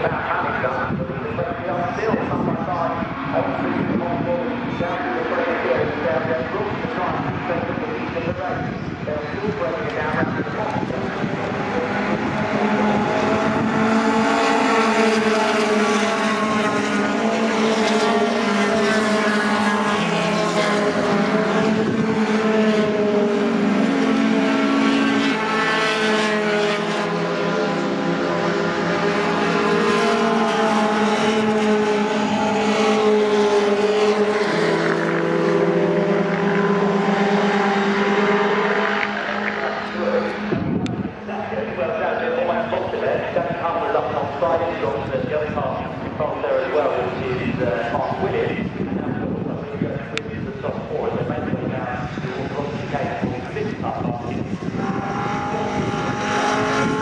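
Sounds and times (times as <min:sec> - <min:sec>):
racing truck engines revving: 0:00.0 - 0:57.0.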